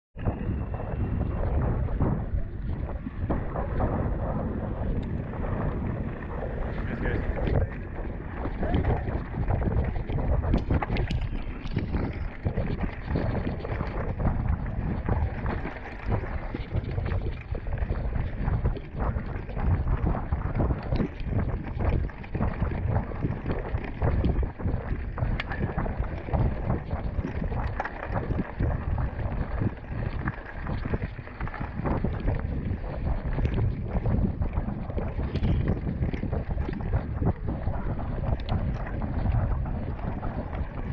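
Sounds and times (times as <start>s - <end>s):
wind buffeting microphone: 0.2s - 40.9s.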